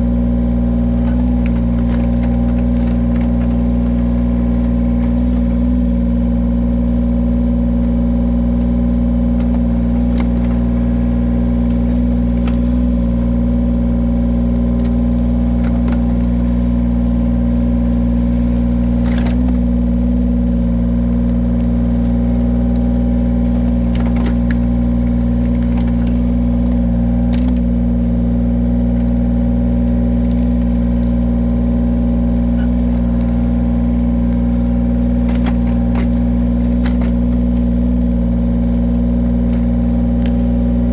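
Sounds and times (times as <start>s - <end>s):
wood cracking: 0.0s - 40.9s
wood splitter engine running: 0.0s - 40.9s.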